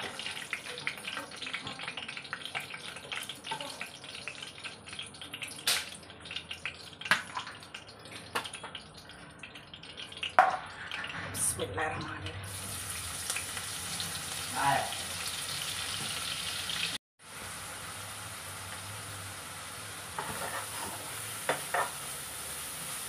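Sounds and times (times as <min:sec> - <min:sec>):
hot oil crackling and popping: 0:00.0 - 0:11.7, 0:12.4 - 0:23.0.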